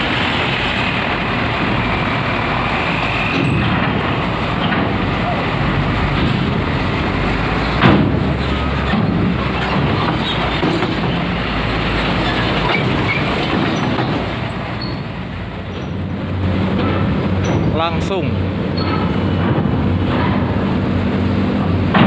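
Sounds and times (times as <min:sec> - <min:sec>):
coach engine running: 0:00.0 - 0:22.0
tyres rumbling over steel plates: 0:00.0 - 0:22.0.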